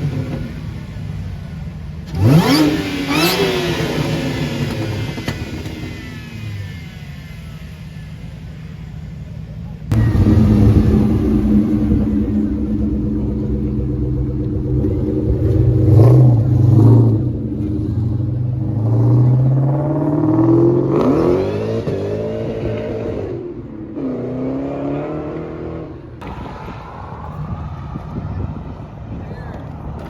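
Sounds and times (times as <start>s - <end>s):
car accelerating away: 0.0s - 26.4s
car engines revving: 0.0s - 30.0s.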